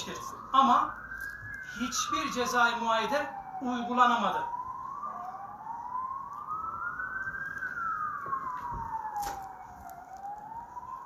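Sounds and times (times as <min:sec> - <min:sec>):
emergency vehicle siren wailing: 0:00.0 - 0:11.0.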